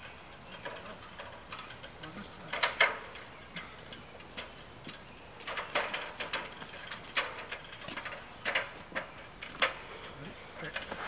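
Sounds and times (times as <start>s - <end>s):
metal ladder clanking and rattling: 0.0s - 11.0s.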